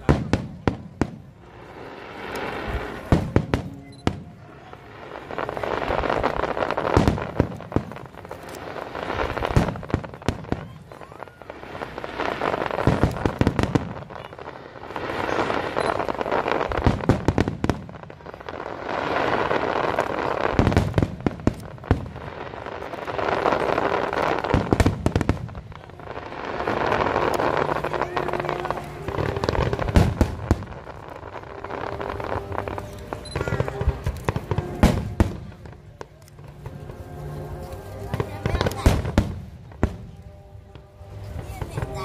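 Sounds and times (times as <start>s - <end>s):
fireworks booming and crackling: 0.0s - 42.0s.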